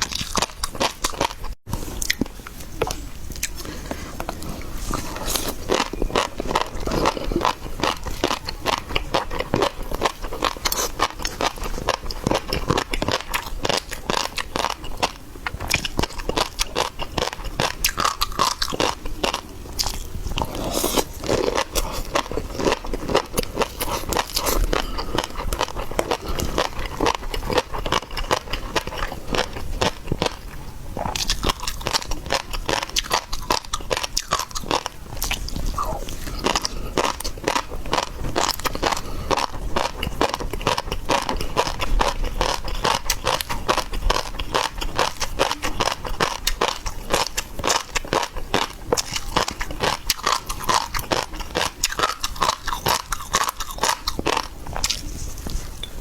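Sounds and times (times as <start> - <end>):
chewing and crunching seafood: 0.0 - 56.0.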